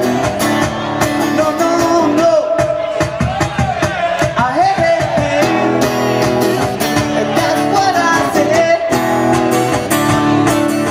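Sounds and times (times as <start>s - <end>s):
acoustic guitar strumming: 0.0s - 10.9s
man singing: 0.0s - 10.9s.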